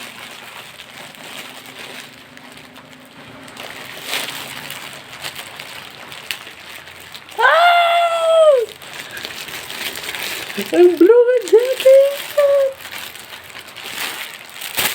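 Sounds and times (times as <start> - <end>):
packaging rustling and crinkling: 0.0 - 14.9
sharp crackle: 0.0 - 14.9.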